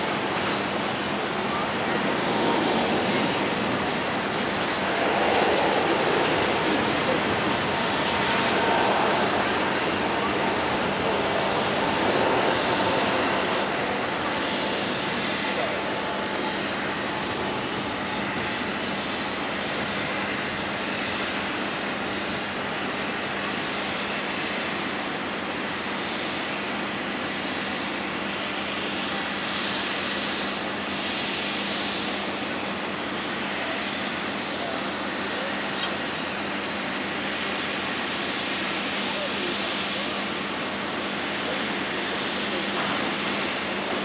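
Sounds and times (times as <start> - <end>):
jet engines rushing: 0.0 - 44.0.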